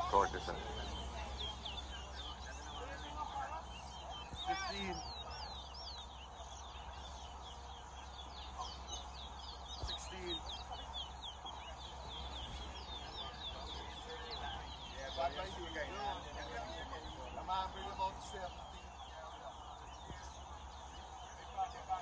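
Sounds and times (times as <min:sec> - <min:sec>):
finch singing whistled notes: 0:00.0 - 0:22.0.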